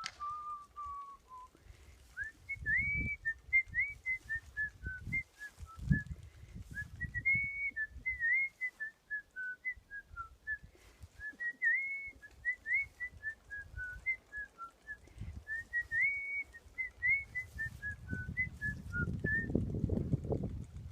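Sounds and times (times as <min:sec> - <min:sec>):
person whistling a melody: 0:00.0 - 0:19.6.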